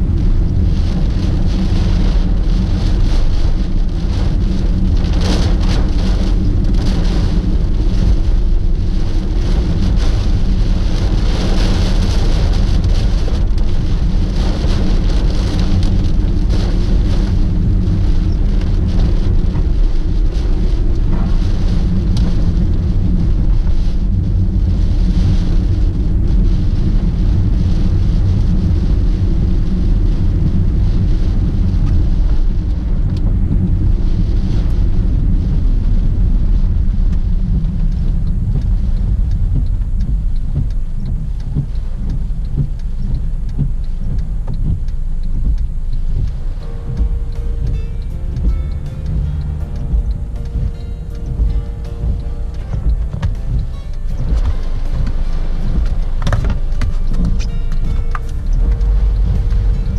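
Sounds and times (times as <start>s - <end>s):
engine and road rumble: 0.0s - 59.9s
heavy rain hitting car: 0.0s - 59.9s.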